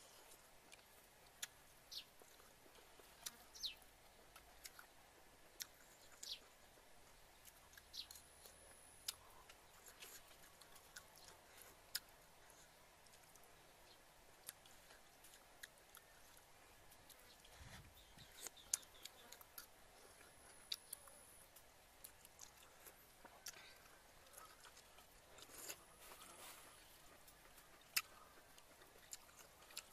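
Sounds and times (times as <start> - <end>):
soft chewing: 0.0 - 29.9.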